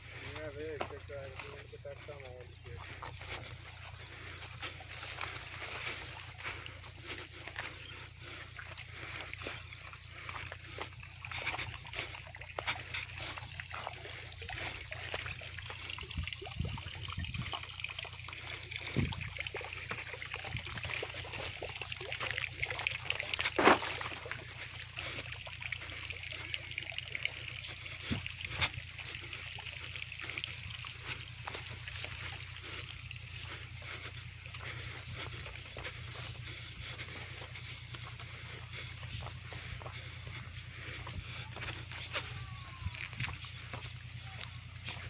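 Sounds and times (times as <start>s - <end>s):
low steady hum: 0.0s - 45.0s
water trickling in a channel: 0.0s - 45.0s.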